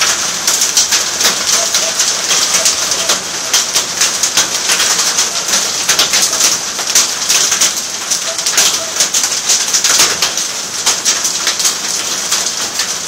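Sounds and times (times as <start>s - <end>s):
heavy rain: 0.0s - 13.0s
raindrops tapping hard surfaces: 0.0s - 13.0s.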